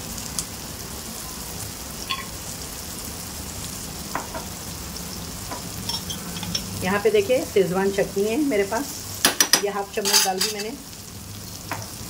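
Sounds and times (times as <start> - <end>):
eggs sizzling in oil: 0.0 - 12.0.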